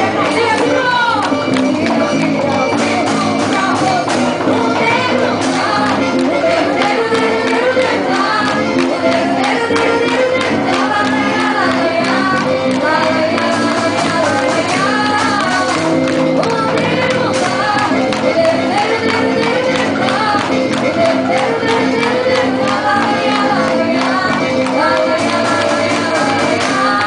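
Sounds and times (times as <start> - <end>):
instrumental accompaniment: 0.0 - 27.0
person singing: 0.0 - 27.0.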